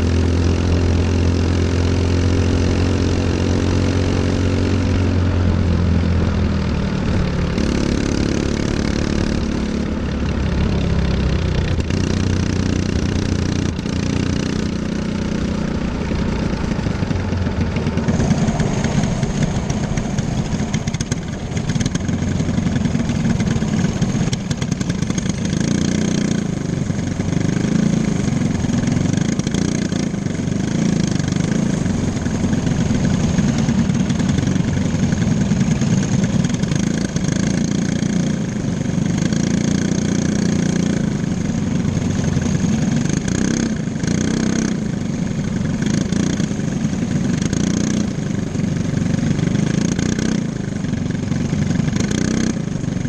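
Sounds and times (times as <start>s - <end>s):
go-kart engine running: 0.0s - 53.0s.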